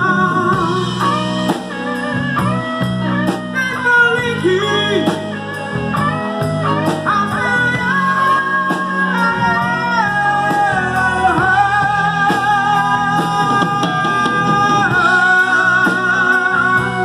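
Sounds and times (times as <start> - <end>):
man singing into a microphone: 0.0 - 1.9, 3.5 - 5.6, 6.8 - 17.0
lead electric guitar: 0.0 - 17.0
rock band playing a ballad: 0.0 - 17.0.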